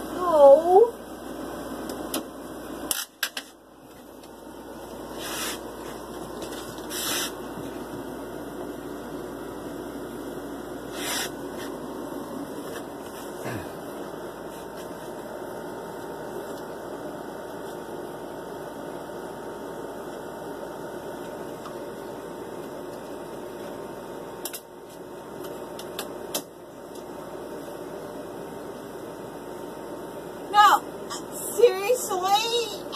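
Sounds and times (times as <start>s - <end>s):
steady mechanical noise: 0.0s - 32.9s.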